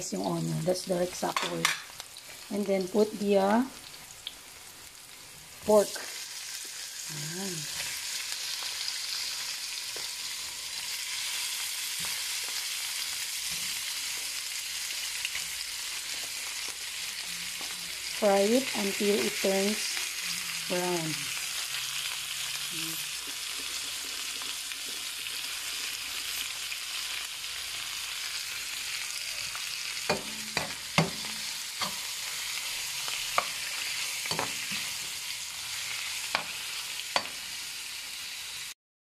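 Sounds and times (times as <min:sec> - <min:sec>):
meat sizzling in hot oil: 0:00.0 - 0:38.8.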